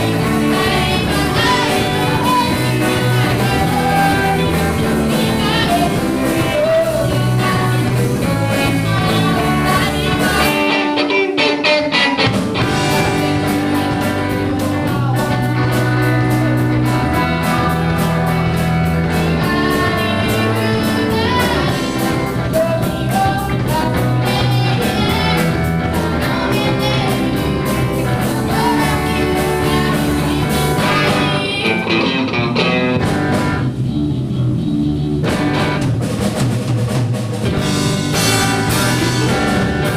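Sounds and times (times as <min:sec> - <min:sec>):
person singing: 0:00.0 - 0:33.0
bass guitar: 0:00.0 - 0:39.9
drums: 0:00.0 - 0:39.9
guitar: 0:00.0 - 0:39.9.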